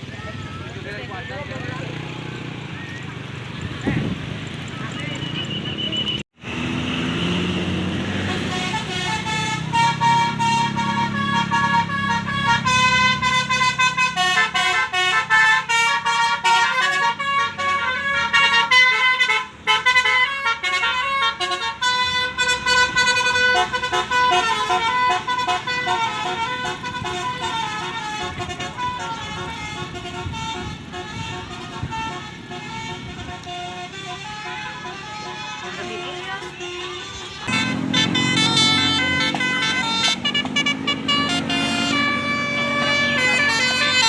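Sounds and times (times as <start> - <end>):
bus engine running: 0.0 - 44.0
musical bus horn tune: 8.1 - 44.0.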